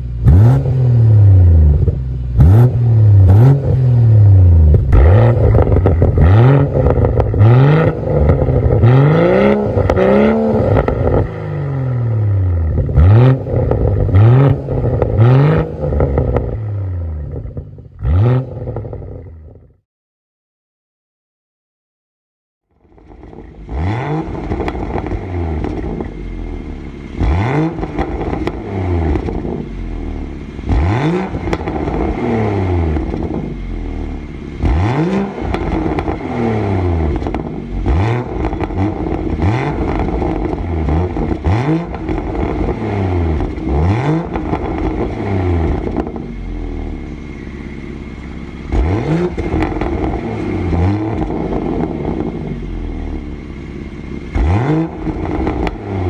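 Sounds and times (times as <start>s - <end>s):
car engine revving: 0.0s - 19.7s, 22.8s - 56.0s
exhaust cracks: 0.2s - 19.7s, 22.8s - 56.0s.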